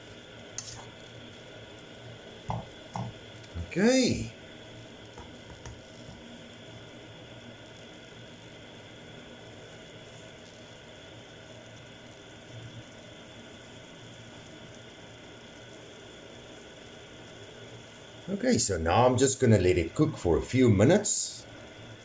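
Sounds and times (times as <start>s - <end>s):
seafood sizzling in a pan: 0.0s - 18.4s, 19.0s - 22.0s.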